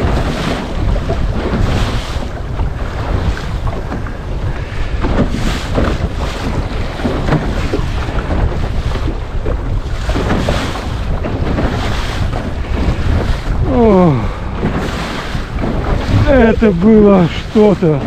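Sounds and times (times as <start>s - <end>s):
gusty wind buffeting microphone: 0.0s - 18.0s
water slapping against hull: 0.0s - 18.0s.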